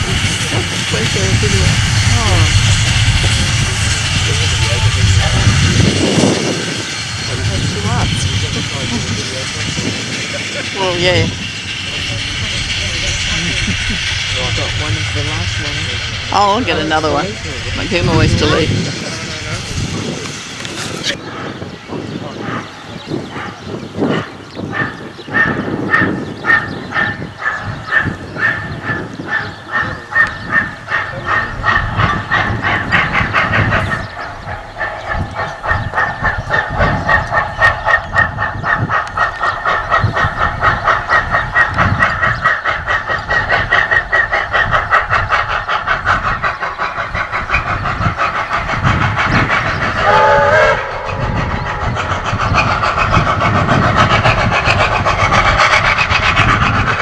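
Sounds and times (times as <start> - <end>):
steam locomotive exhaust beats: 0.0 - 57.0.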